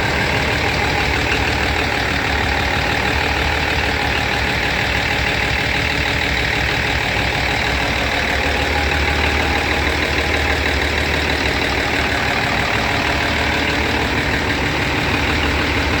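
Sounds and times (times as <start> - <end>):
engine room machinery din: 0.0 - 16.0.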